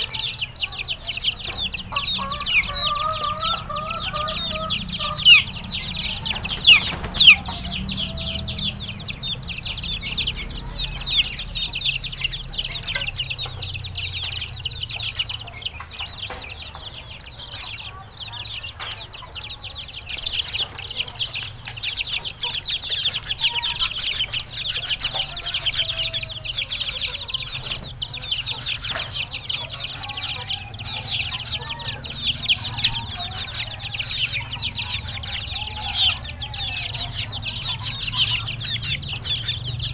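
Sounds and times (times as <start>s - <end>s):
chickens cheeping and clucking: 0.0s - 39.9s.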